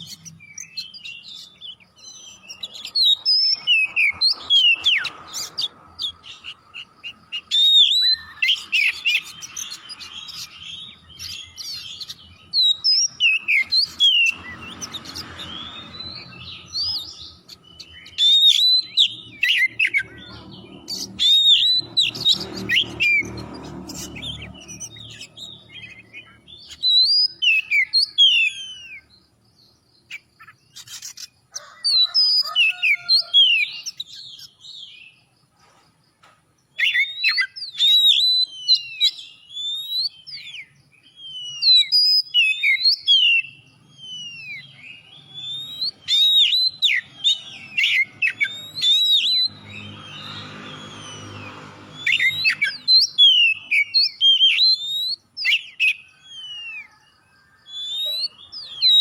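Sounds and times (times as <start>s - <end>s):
bird singing whistled notes: 0.0s - 31.4s, 36.6s - 59.0s.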